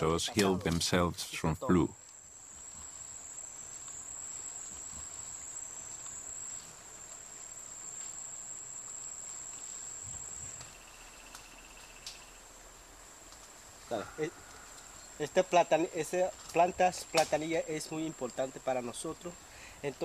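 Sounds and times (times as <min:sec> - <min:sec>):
insect high-pitched trill: 0:00.0 - 0:20.0
lower rattling insect trill: 0:00.0 - 0:20.0.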